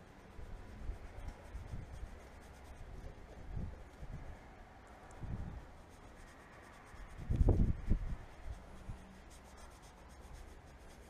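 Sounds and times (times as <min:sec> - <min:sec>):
cloth rubbing on fibreglass: 0:00.0 - 0:04.6, 0:05.2 - 0:11.0.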